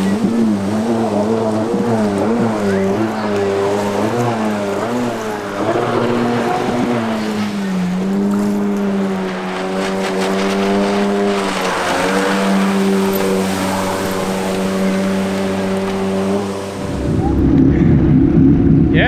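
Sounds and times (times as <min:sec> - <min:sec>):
jet ski engine running: 0:00.0 - 0:19.0.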